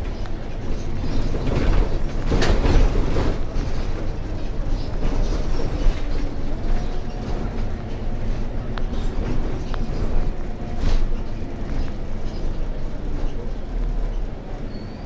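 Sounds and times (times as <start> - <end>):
bus diesel engine running: 0.0 - 15.0
road and body noise: 0.0 - 15.0.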